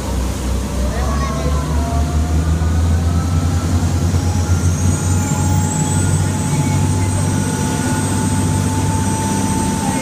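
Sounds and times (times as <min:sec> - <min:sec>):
boat engines droning: 0:00.0 - 0:10.0.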